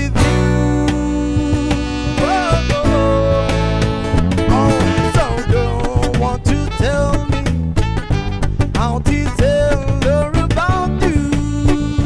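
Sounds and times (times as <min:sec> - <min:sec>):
music with drums and bass: 0:00.0 - 0:12.0.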